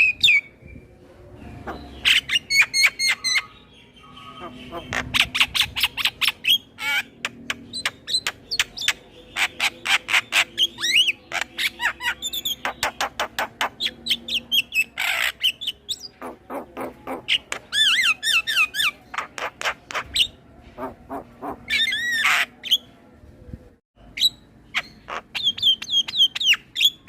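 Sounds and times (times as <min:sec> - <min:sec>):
bird singing chattering song: 0:00.0 - 0:23.0, 0:24.0 - 0:27.0.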